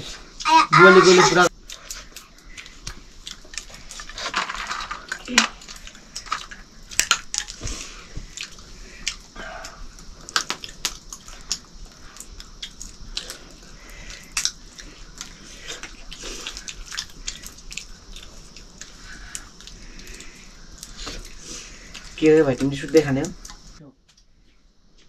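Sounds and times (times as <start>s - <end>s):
acorns cracking: 1.5s - 23.7s
chewing: 1.6s - 4.3s, 5.0s - 24.3s.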